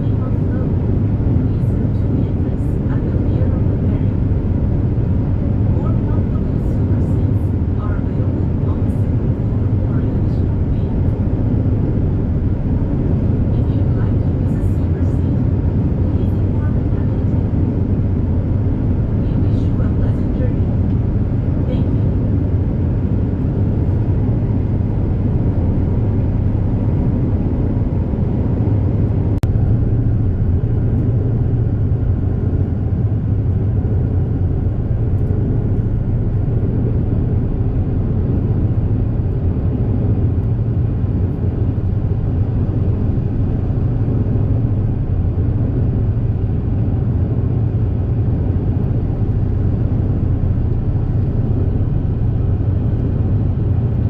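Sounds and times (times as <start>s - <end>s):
ferry engine drone: 0.0s - 54.0s
hull rumble: 0.0s - 54.0s.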